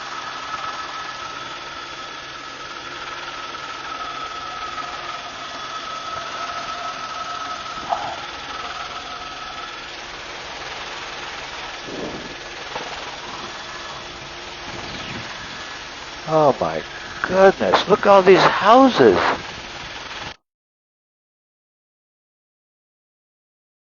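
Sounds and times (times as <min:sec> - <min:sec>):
helicopter cabin rushing noise: 0:00.0 - 0:20.4
high whine: 0:00.0 - 0:20.4.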